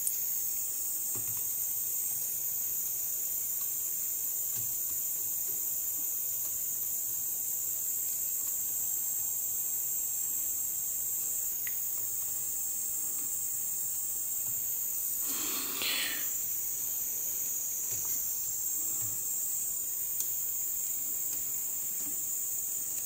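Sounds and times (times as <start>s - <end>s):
high-pitched background hiss: 0.0s - 23.0s.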